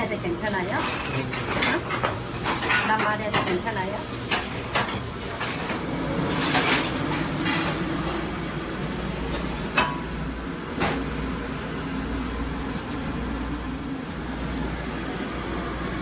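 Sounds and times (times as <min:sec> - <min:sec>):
low mechanical kitchen rumble: 0:00.0 - 0:16.0.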